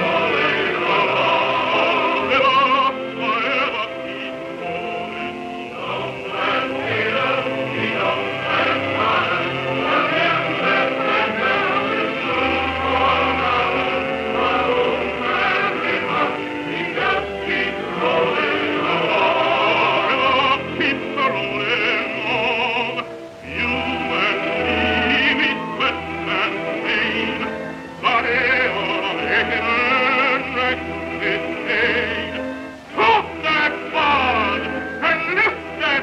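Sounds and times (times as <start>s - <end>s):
man singing with vibrato: 0.0s - 36.0s
orchestral accompaniment: 0.0s - 36.0s.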